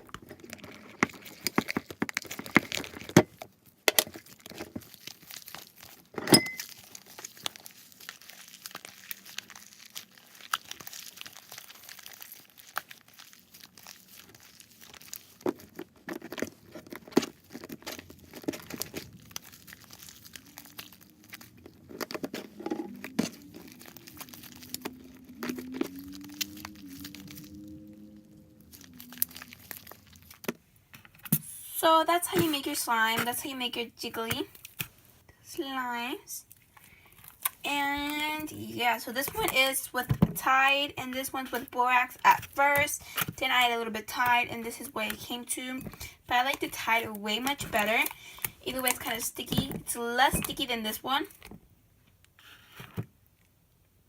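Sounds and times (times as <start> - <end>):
slime squelching and crackling: 0.0 - 51.5.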